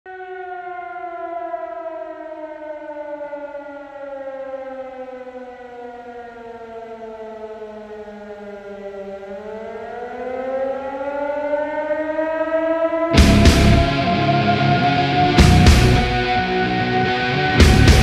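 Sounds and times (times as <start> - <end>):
air-raid siren wailing: 0.1 - 18.0.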